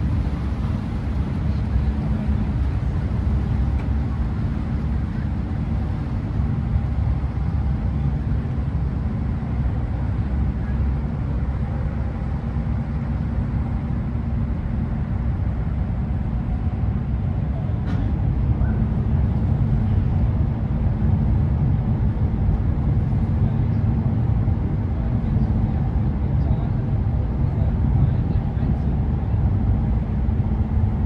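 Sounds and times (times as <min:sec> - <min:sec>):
ferry engine droning: 0:00.0 - 0:31.0.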